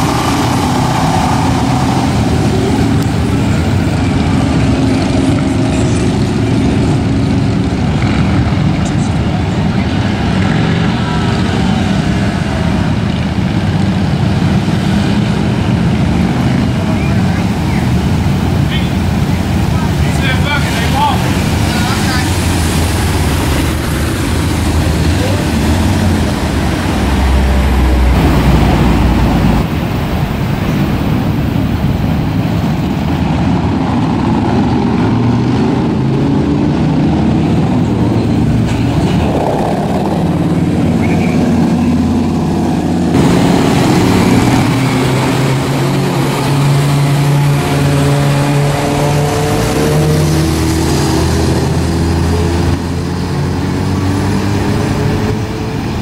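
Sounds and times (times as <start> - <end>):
motorcycle engines revving: 0.0 - 56.0
passing car traffic: 0.0 - 56.0.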